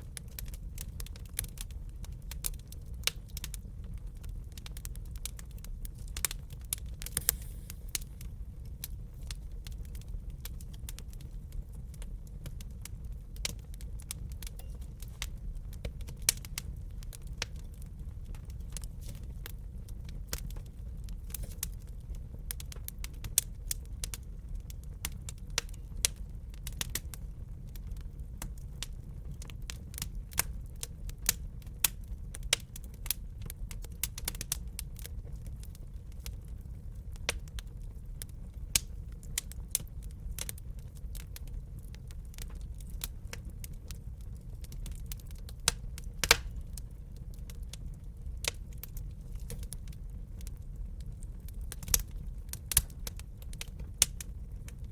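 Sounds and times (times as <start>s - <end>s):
low rumble of burning: 0.0s - 54.9s
wood fire crackling and popping: 0.0s - 54.9s.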